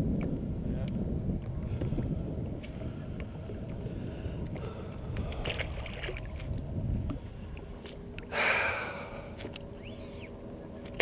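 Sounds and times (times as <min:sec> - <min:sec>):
water against boat hull: 0:00.0 - 0:11.0
wind rumbling on microphone: 0:00.0 - 0:11.0.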